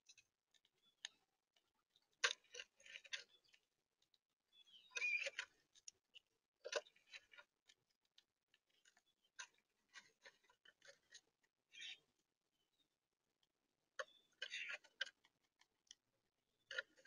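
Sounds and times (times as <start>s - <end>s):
squirrel crunching food: 0.0s - 12.3s, 13.2s - 17.0s.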